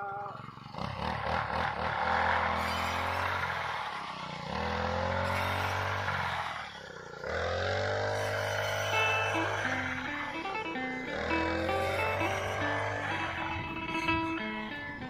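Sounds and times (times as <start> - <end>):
engine revving: 0.1 - 15.0.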